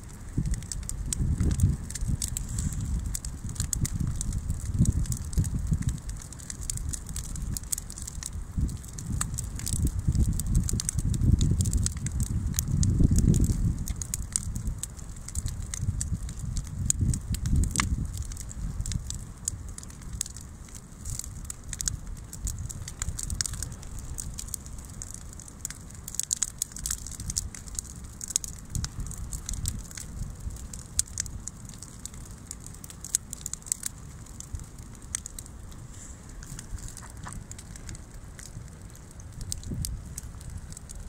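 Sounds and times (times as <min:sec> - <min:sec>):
bonfire crackling and popping: 0:00.0 - 0:41.0
low fire rumble: 0:00.0 - 0:41.0.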